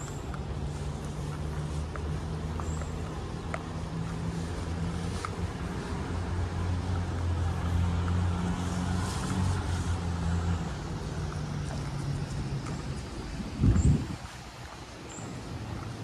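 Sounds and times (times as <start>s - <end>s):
engine droning: 0.0s - 16.0s
outdoor street noise: 0.0s - 16.0s.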